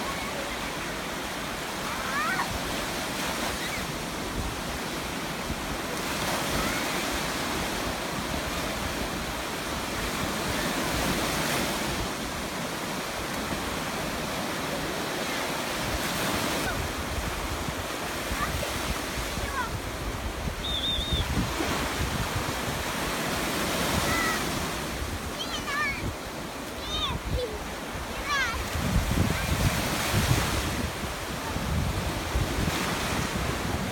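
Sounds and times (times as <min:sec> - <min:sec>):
sea waves breaking: 0:00.0 - 0:33.9
wind: 0:00.0 - 0:33.9.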